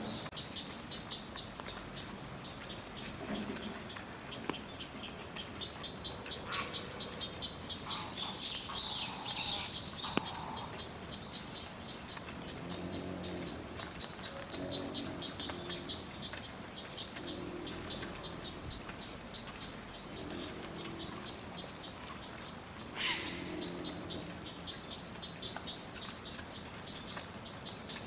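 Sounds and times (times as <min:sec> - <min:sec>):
rain pattering: 0:00.0 - 0:28.0
small birds chirping: 0:00.0 - 0:28.0.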